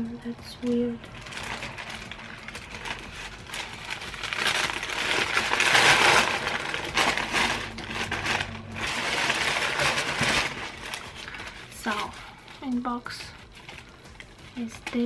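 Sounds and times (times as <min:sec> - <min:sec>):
tissue paper crinkling: 0:00.5 - 0:15.0.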